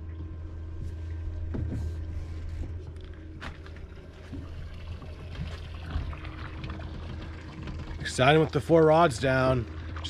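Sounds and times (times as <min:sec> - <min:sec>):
low hum: 0:00.0 - 0:10.0
water lapping against hull: 0:00.0 - 0:10.0.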